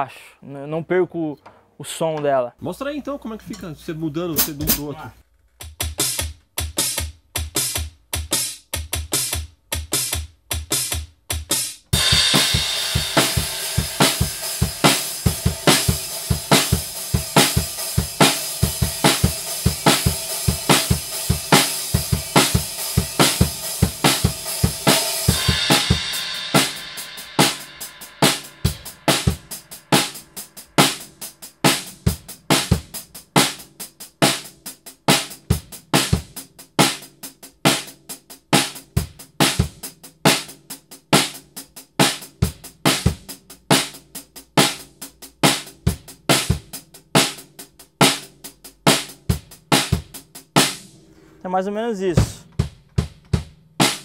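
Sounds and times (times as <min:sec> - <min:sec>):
rock drum beat: 0:02.9 - 0:50.9, 0:52.0 - 0:54.0.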